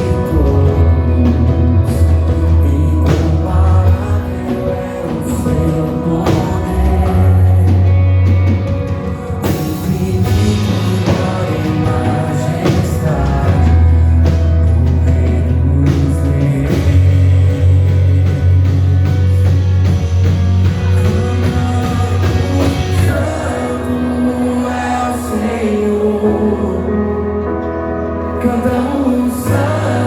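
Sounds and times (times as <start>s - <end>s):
person singing: 0.0s - 19.4s, 20.8s - 30.0s
worship band music: 0.0s - 30.0s.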